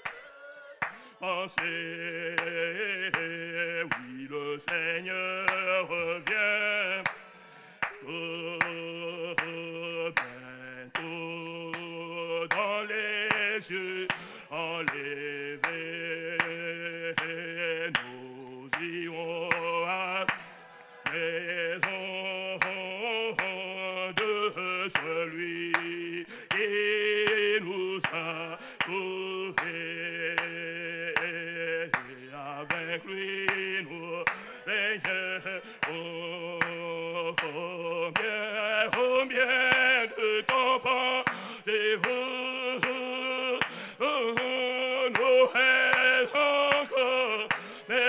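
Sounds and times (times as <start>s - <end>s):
man singing loudly: 0.0s - 7.2s, 7.9s - 48.0s
congregation singing a hymn: 0.0s - 48.0s
sharp ticks keeping the beat: 0.0s - 48.0s.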